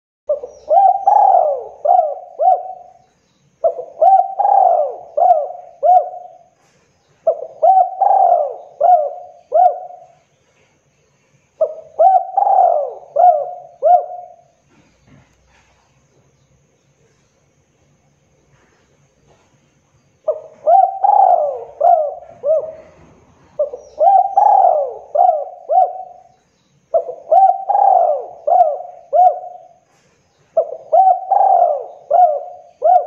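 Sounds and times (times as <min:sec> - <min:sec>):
dove cooing: 0:00.3 - 0:10.2, 0:11.6 - 0:15.8, 0:20.2 - 0:33.0.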